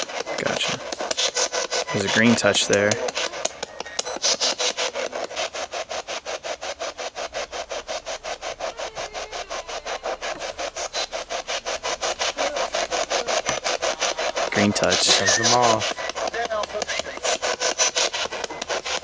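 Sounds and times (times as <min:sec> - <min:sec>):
radio static bursts: 0:00.0 - 0:19.0.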